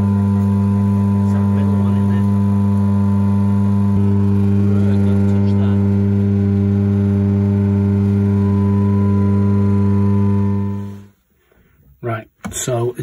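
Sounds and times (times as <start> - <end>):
electrical hum of rotary converter: 0.0 - 13.0.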